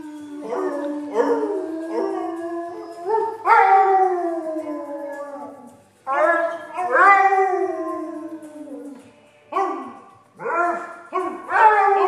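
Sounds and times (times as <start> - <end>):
dog howling: 0.0 - 9.0, 10.4 - 12.0.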